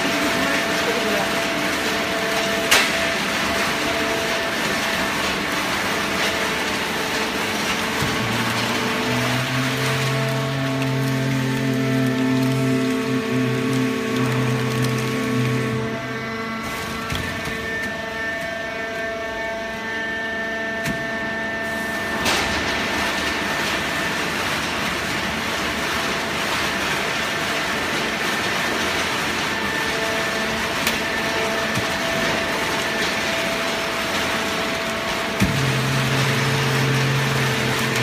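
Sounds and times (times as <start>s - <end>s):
baler machine hum: 0.0s - 38.0s.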